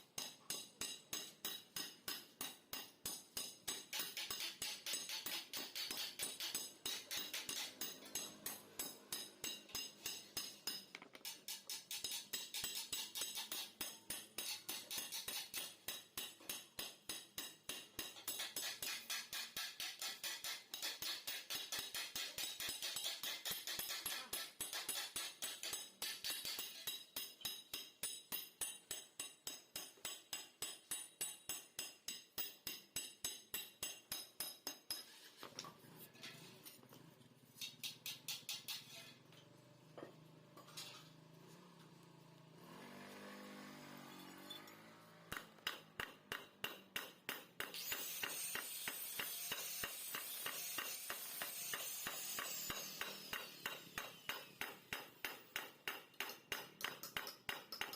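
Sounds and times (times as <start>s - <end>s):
hammer striking metal: 0.0s - 35.2s, 37.6s - 39.4s, 43.9s - 57.9s.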